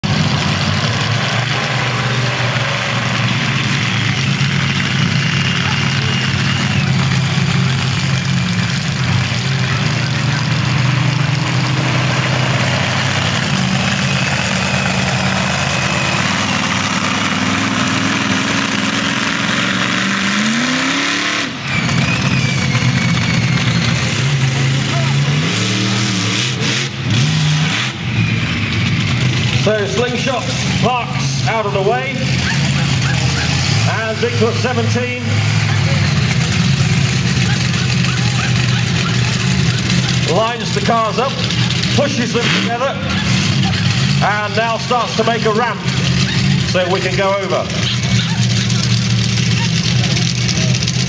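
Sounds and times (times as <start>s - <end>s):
monster truck engine revving: 0.0s - 51.0s.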